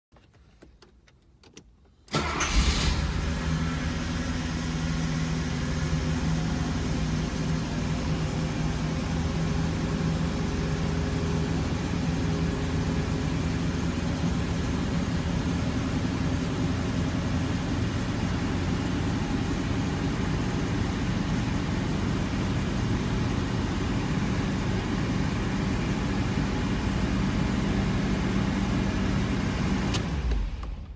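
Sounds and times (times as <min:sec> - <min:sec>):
car engine idling: 0:00.2 - 0:30.9.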